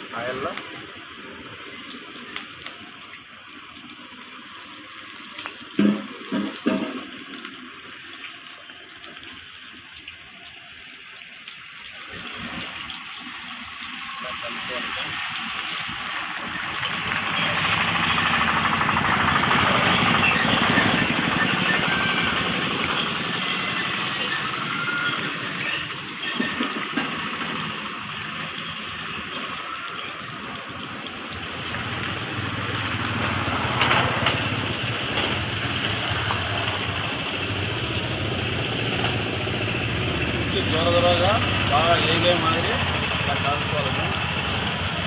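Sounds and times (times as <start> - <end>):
fritters sizzling in hot oil: 0.0 - 45.0.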